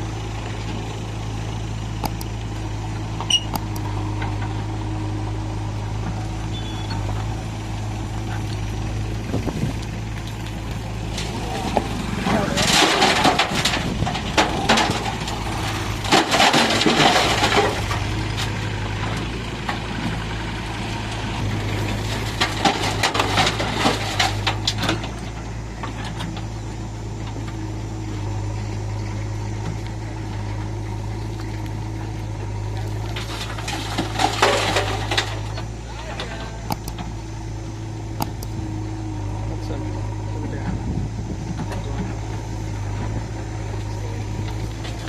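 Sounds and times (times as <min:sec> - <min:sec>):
diesel engine droning: 0:00.0 - 0:45.0.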